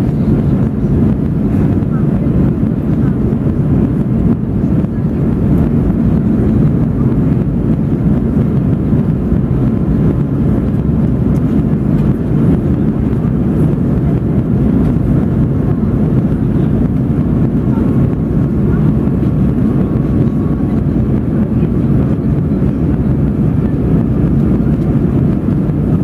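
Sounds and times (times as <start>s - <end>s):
aircraft cabin engine roar: 0.0s - 26.0s.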